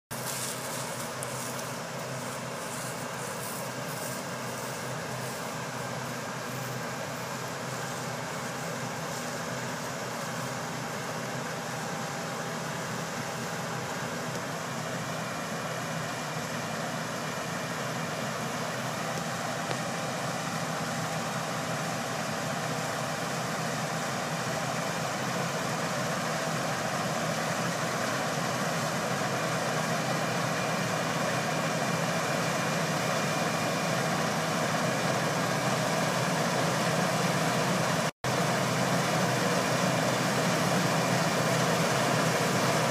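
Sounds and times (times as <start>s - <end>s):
combine harvester running: 0.1s - 42.9s.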